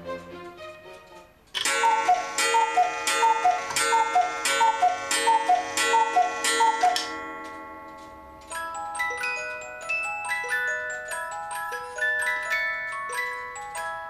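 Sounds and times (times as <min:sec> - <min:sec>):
cuckoo clock call: 0:01.6 - 0:14.0.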